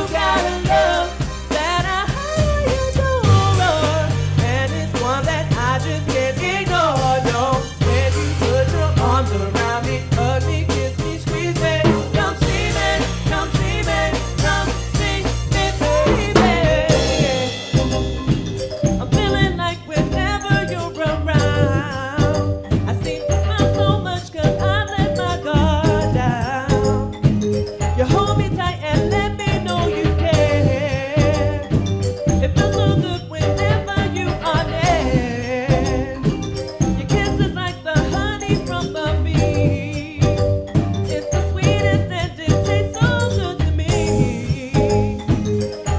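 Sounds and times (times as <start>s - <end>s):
wavering melodic lines: 0.0s - 4.4s, 11.3s - 45.9s
band playing a song: 0.0s - 45.9s
drum kit beat: 0.0s - 45.9s.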